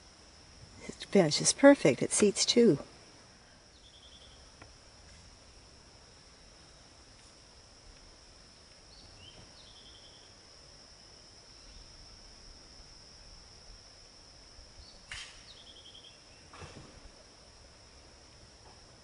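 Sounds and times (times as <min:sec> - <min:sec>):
high-pitched insect drone: 0:00.0 - 0:16.4.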